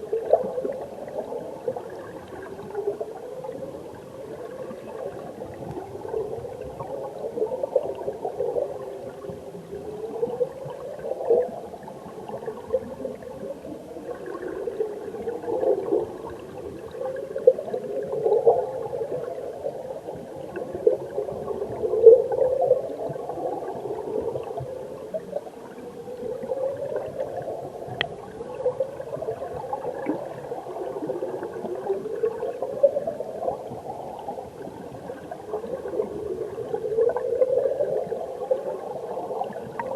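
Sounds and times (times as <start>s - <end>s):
underwater stream bubbling: 0.0s - 39.9s.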